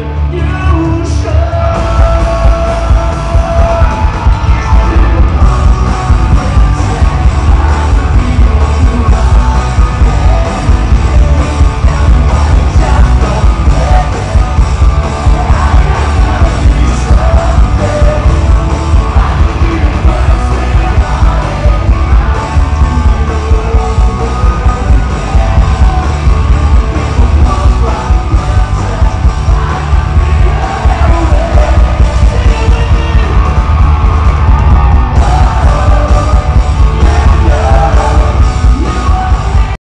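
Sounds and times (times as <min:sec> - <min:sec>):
live rock band playing: 0:00.0 - 0:39.8
person singing: 0:00.0 - 0:39.8.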